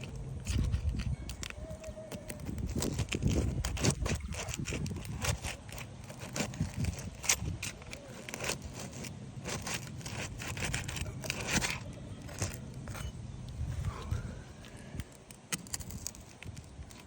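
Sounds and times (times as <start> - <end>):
shingles scraping and crackling: 0.0 - 17.0.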